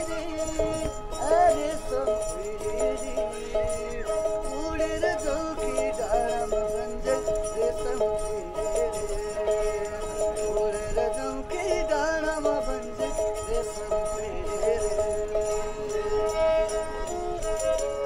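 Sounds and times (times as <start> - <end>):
light rhythmic percussion: 0.0 - 18.0
wavering melody over drone: 0.0 - 18.0.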